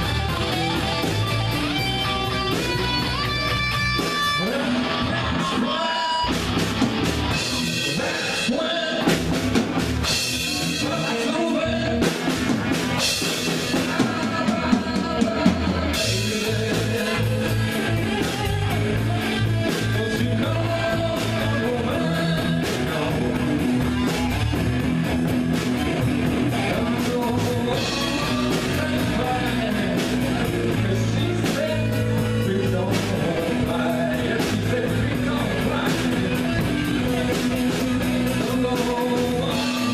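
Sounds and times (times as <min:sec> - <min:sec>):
person singing: 0:00.0 - 0:09.4, 0:10.0 - 0:39.9
bass guitar: 0:00.0 - 0:39.9
drum kit: 0:00.0 - 0:39.9
electric guitar: 0:00.0 - 0:39.9.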